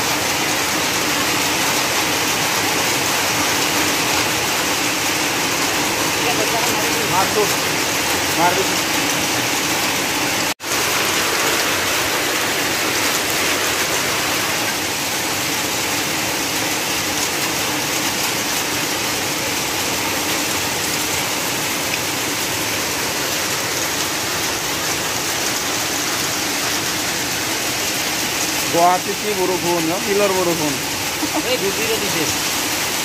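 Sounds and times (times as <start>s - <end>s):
hail and heavy rain pelting: 0.0s - 33.0s.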